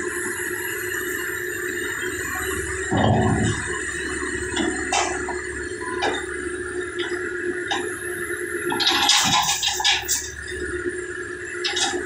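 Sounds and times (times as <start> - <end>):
backhoe engine running: 0.0 - 12.0
hydraulic whine: 0.0 - 12.0.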